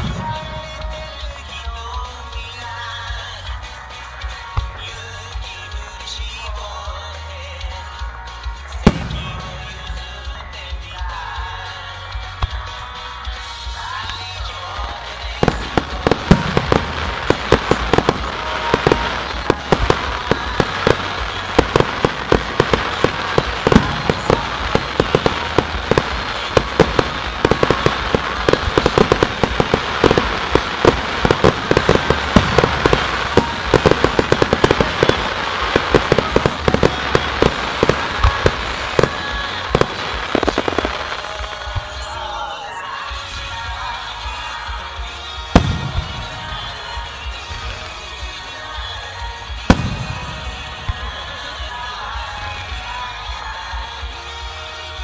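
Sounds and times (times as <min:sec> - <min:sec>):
fireworks bangs and crackles: 0:00.0 - 0:55.0
music playing: 0:00.0 - 0:55.0.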